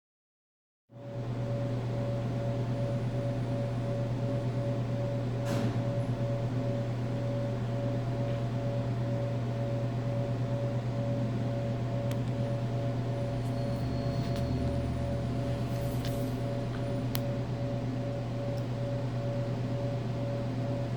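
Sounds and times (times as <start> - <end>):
mechanical hum with pulsing tone: 0.9 - 20.9.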